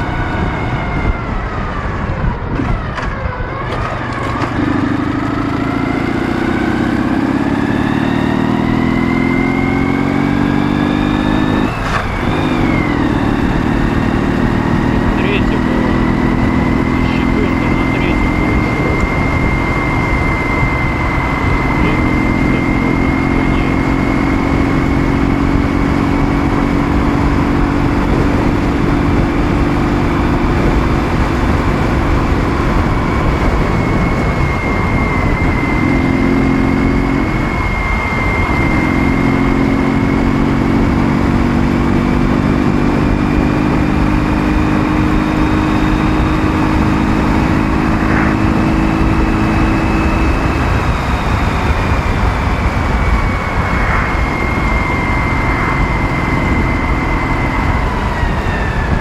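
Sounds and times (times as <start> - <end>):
heavy wind noise: 0.0 - 59.0
motorcycle engine cruising: 0.0 - 59.0.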